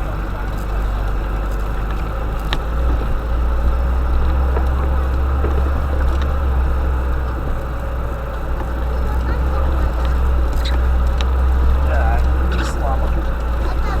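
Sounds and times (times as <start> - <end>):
faint rattles: 0.0 - 14.0
van engine droning: 0.0 - 14.0.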